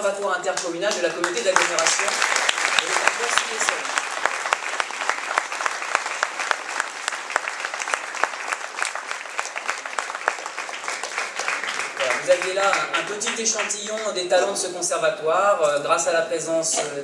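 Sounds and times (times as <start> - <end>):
audience applauding: 0.0 - 14.3.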